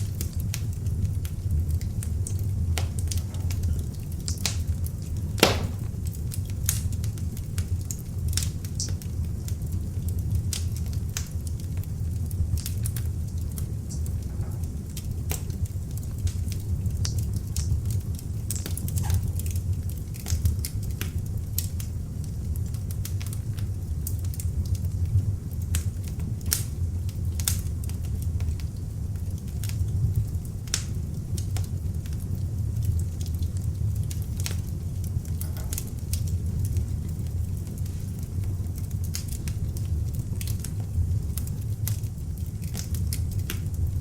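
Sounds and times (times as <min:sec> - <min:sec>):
log fire crackling: 0:00.0 - 0:44.0.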